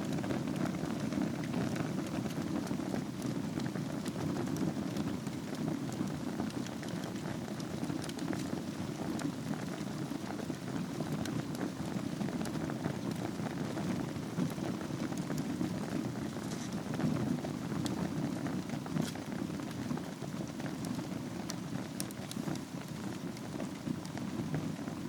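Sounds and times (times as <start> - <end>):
fire crackles and pops: 0.0 - 25.0
fireplace fire rushing: 0.0 - 25.0.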